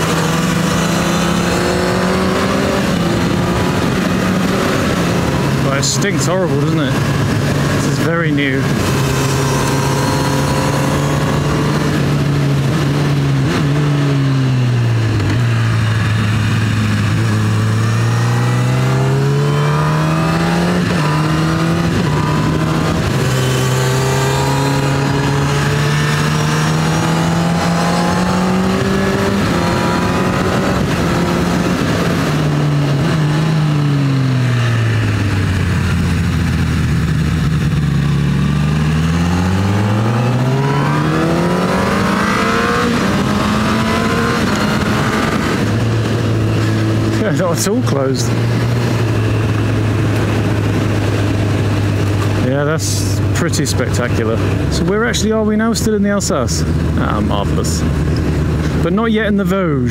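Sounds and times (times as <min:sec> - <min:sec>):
wind rush: 0:00.0 - 0:52.4
motorcycle engine revving: 0:00.0 - 0:59.9.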